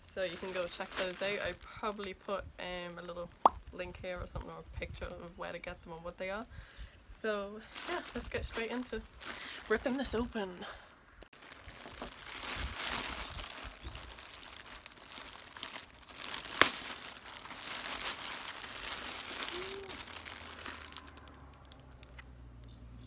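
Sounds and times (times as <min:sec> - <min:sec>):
packaging crinkling and rustling: 0:00.0 - 0:05.2, 0:07.7 - 0:10.4, 0:11.2 - 0:22.2.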